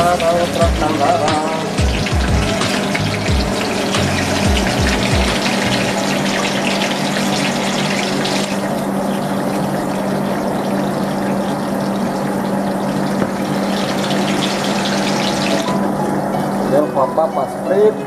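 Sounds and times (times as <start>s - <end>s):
potatoes sizzling in hot oil: 0.0s - 15.8s.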